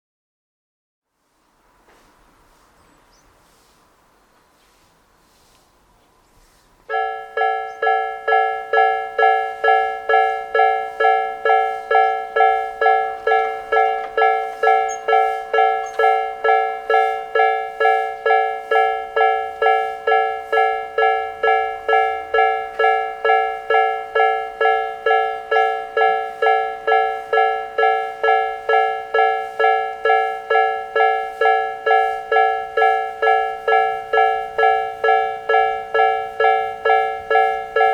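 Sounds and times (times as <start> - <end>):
level crossing warning bells: 6.2 - 37.9.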